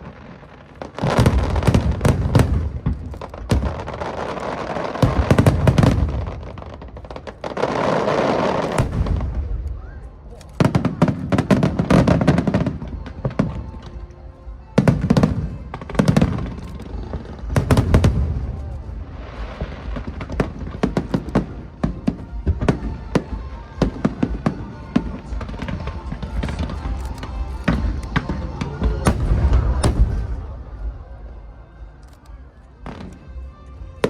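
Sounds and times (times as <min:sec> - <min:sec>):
fireworks booming: 0:00.0 - 0:13.8, 0:14.8 - 0:30.9
fireworks cracking and crackling: 0:00.0 - 0:31.3
music playing: 0:00.0 - 0:34.0.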